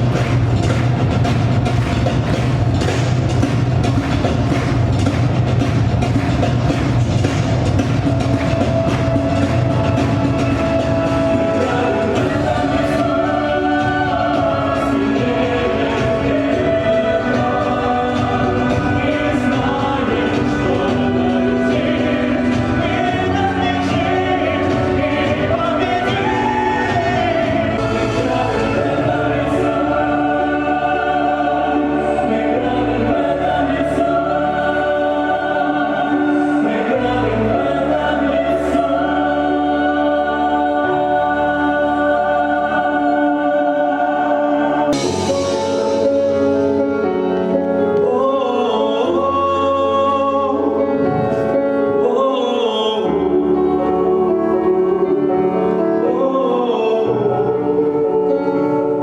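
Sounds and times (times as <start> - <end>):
bass line: 0.0 - 47.8
choir singing sustained chords: 0.0 - 59.0.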